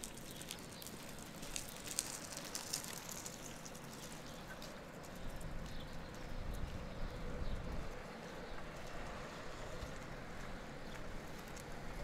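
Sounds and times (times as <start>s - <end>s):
footsteps clicking and scuffing: 0.0s - 12.0s.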